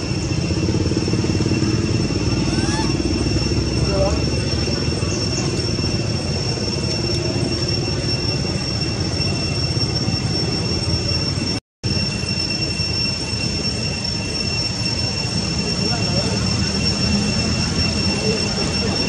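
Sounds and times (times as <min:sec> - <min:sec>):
cicadas droning: 0:00.0 - 0:19.0.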